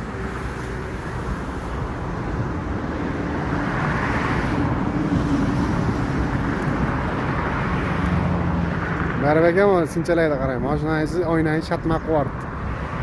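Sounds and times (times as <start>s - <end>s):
road rushing: 0.0s - 13.0s
vehicle engine hum: 0.0s - 13.0s.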